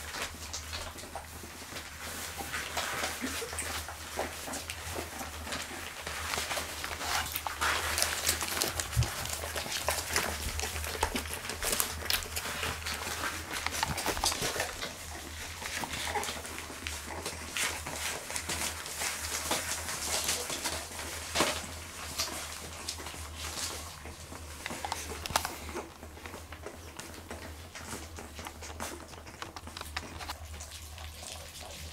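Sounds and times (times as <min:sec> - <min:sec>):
newspaper rustling and crinkling: 0:01.4 - 0:30.4.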